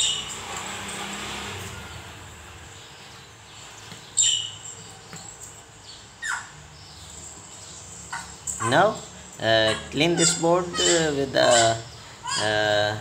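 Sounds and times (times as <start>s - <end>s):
small bird chirping: 0.0s - 0.5s, 1.7s - 12.9s.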